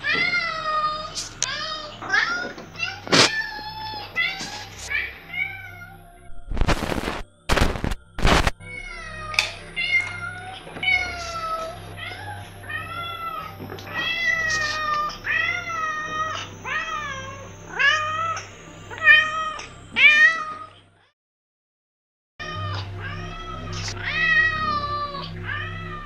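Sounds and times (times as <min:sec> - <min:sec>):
cat meowing: 0:00.0 - 0:06.0, 0:08.7 - 0:20.8, 0:22.4 - 0:26.0.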